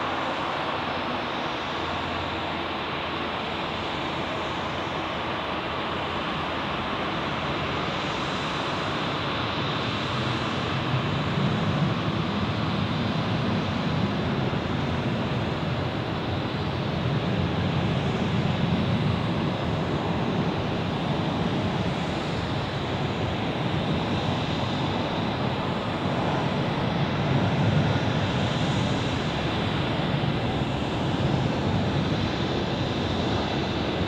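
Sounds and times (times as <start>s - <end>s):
jet engines at taxi power: 0.0s - 34.0s.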